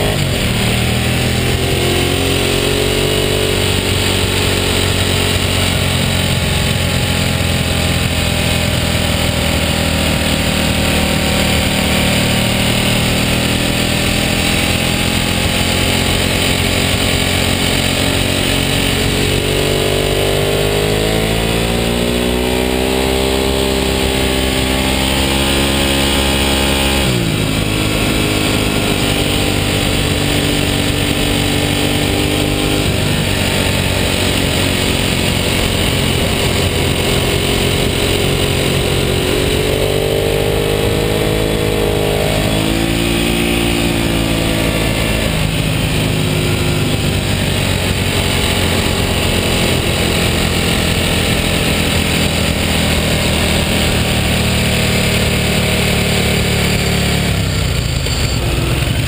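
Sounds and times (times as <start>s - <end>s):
motorbike engine at speed: 0.0s - 59.0s
wind and road noise: 0.0s - 59.0s.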